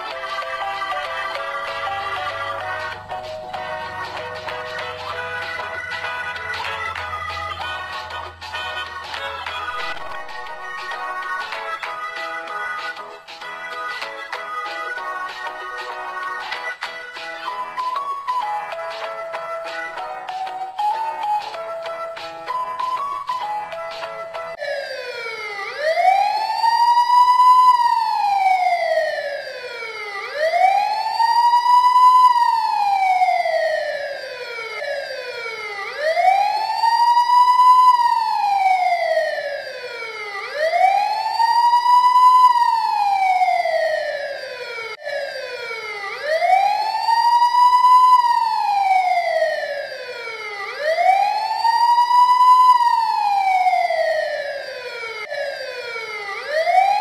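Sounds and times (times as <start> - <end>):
wailing siren: 0.0 - 57.0.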